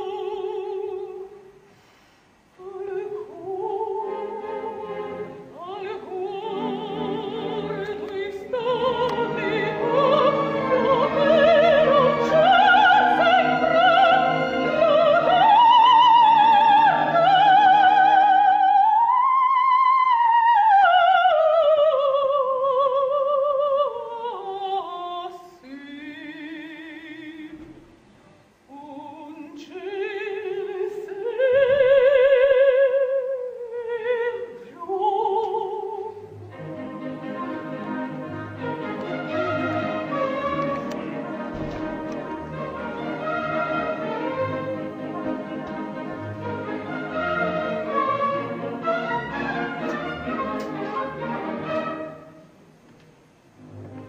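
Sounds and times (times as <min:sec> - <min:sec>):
operatic soprano singing: 0:00.0 - 0:01.5, 0:02.5 - 0:27.7, 0:28.7 - 0:52.3.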